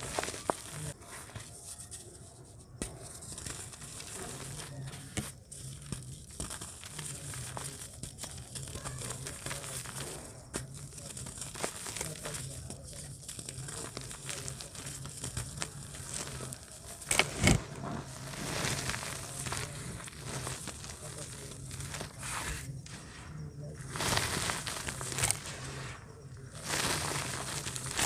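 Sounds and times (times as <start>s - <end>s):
dirt crunch: 0.0s - 28.0s
hands crumbling dry dirt: 0.0s - 28.0s.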